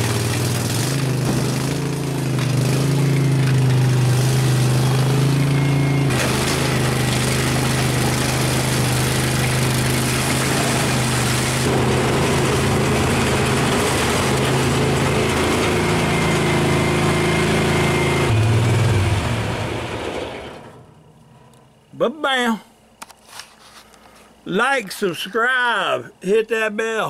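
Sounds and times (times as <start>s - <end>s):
tracked vehicle engine running: 0.0s - 21.9s.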